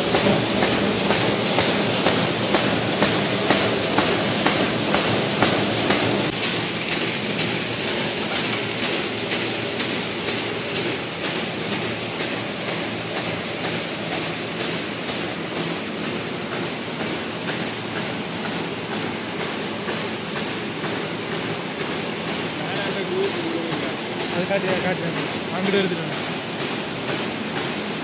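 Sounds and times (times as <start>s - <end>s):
paper bag machine clattering: 0.0s - 28.0s
regular mechanical knocking: 0.0s - 28.0s.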